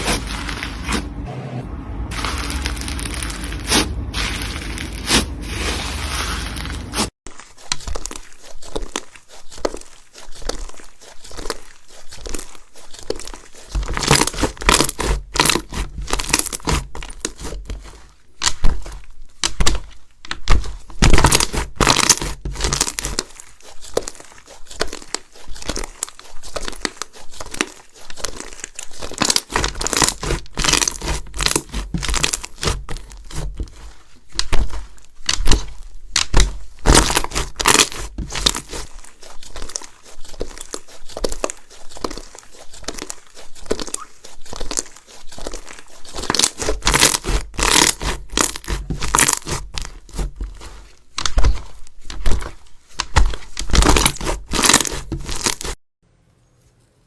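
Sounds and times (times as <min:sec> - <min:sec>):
slime squeezed by hand: 0:02.1 - 0:55.8.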